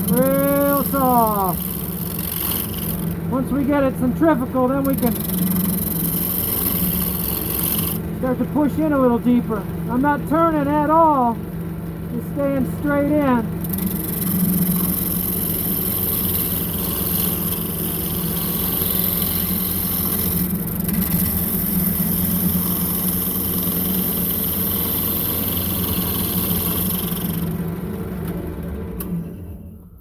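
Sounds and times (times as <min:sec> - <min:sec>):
turning tool cutting wood: 0:00.0 - 0:28.2
lathe motor hum: 0:00.0 - 0:29.9.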